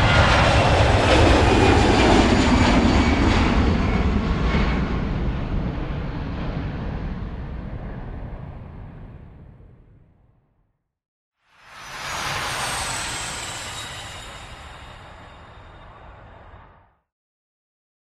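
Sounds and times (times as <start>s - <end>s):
aircraft engine passing: 0.0s - 10.1s, 11.6s - 16.9s.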